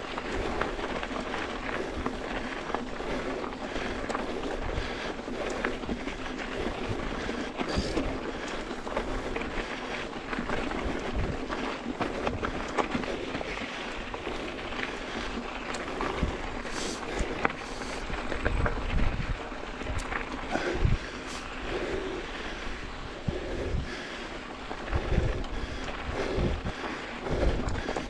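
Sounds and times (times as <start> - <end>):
bike tyres rushing over gravel: 0.0 - 28.0
wind rumble on microphone: 0.0 - 28.0.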